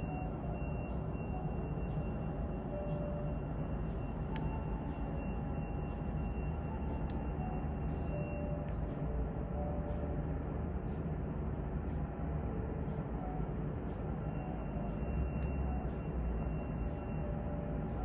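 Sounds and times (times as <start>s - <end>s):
muffled aircraft rumble: 0.0s - 18.0s.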